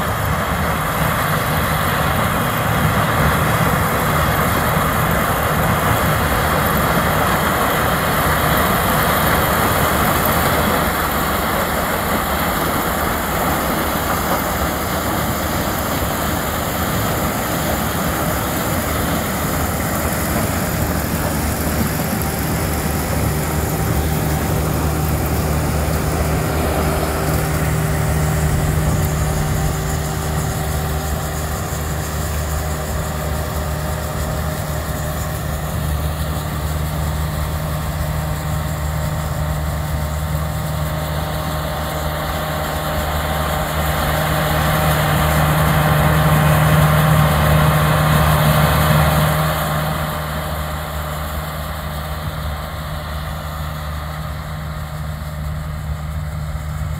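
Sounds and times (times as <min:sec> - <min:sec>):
combine harvester drone: 0:00.0 - 0:56.9.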